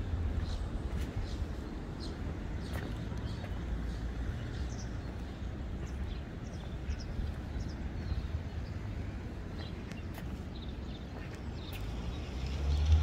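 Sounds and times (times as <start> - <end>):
steady low rumble: 0.0 - 11.7.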